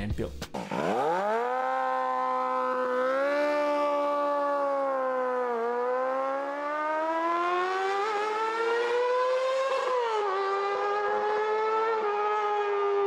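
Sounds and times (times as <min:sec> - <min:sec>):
motorcycle engine revving high: 0:00.5 - 0:13.0.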